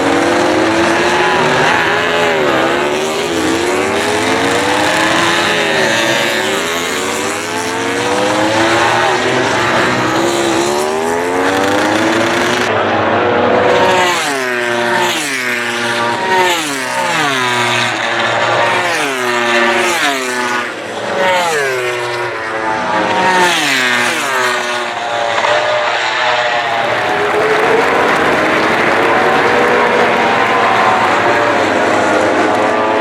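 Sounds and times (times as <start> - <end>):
motorcycles braking and downshifting: 0.0 - 33.0.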